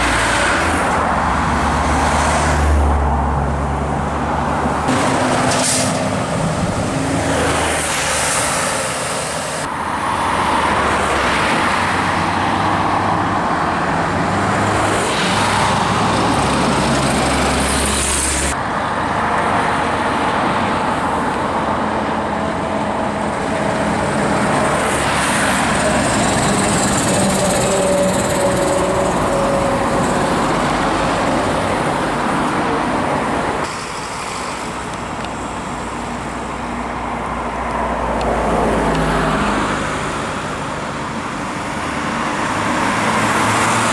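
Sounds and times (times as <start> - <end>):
diesel truck engines: 0.0 - 43.9
road noise: 0.0 - 43.9.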